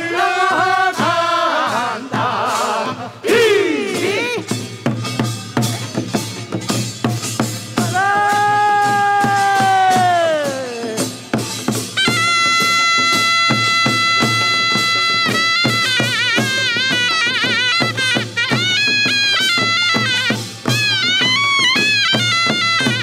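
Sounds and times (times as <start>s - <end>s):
drums beating: 0.0s - 23.0s
shawm playing piercing melody: 3.3s - 23.0s.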